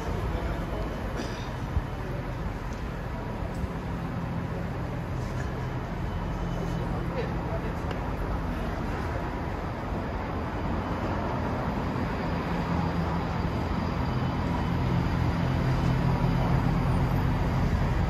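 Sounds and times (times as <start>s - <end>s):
passing vehicles engine hum: 0.0s - 18.0s.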